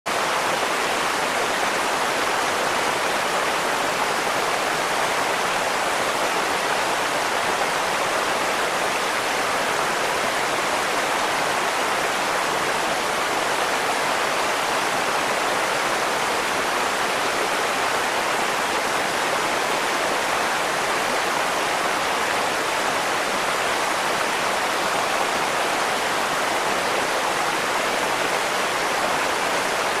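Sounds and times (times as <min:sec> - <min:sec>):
waterfall rushing over rocks: 0:00.1 - 0:30.0.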